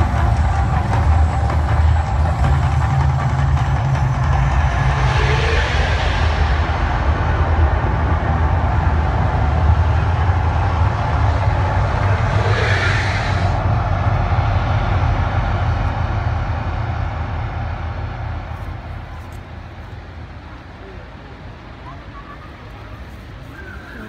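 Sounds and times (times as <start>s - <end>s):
deep fire rumble: 0.0s - 21.9s.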